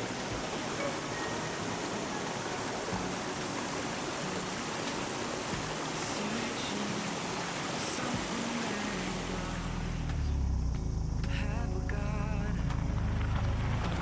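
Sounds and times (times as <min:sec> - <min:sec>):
stream of water rushing: 0:00.0 - 0:14.0.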